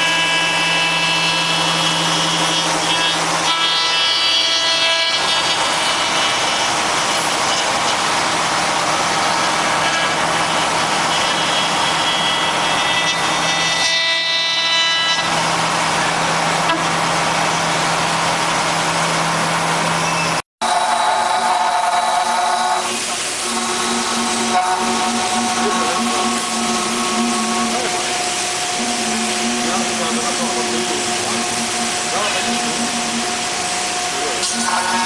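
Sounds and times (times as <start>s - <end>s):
router spindle whine: 0.0s - 17.0s, 20.6s - 35.0s.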